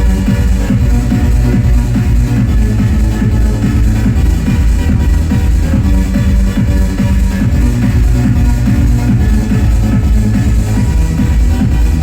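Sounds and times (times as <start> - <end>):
electronic dance music with heavy bass: 0.0 - 12.0.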